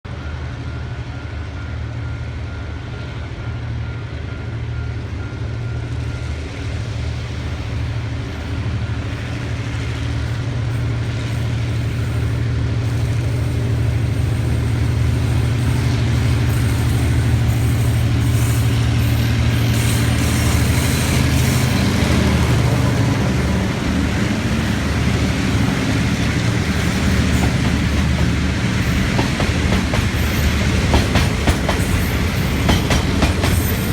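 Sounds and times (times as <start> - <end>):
locomotive engine drone: 0.1 - 33.9
wheel and rail noise: 0.2 - 33.9.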